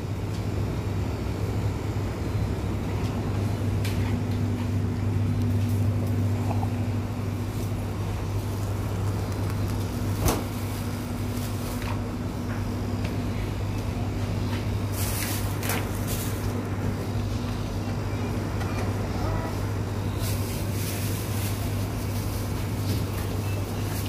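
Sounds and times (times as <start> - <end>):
cooling equipment humming: 0.0 - 24.0.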